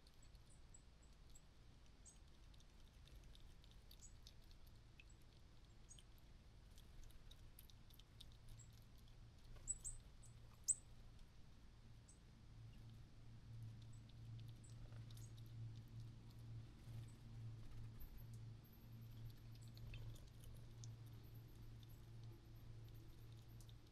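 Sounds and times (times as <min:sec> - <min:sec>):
faint high-pitched clicks: 0:00.0 - 0:11.4, 0:12.1 - 0:23.9.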